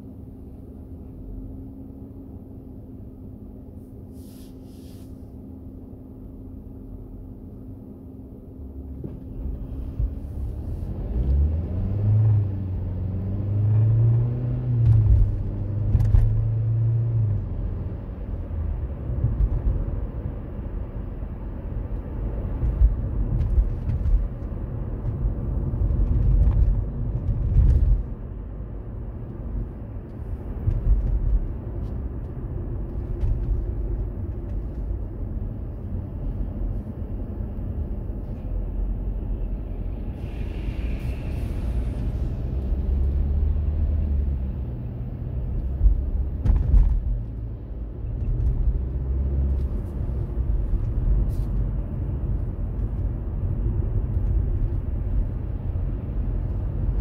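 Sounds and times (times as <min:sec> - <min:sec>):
road rumble: 0:00.0 - 0:57.0
vehicle engine: 0:00.0 - 0:57.0.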